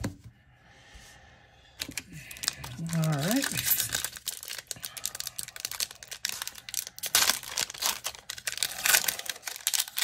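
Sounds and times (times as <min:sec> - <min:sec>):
plastic wrapper crinkling and tearing: 0:01.8 - 0:10.0.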